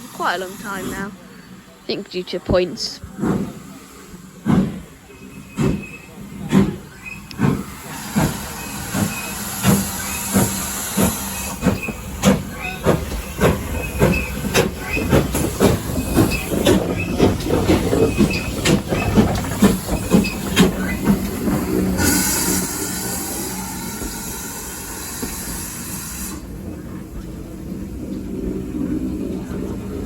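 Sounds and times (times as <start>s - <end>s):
steam hissing: 0.0s - 1.9s, 3.1s - 27.7s
steam locomotive exhaust beats: 0.0s - 30.0s.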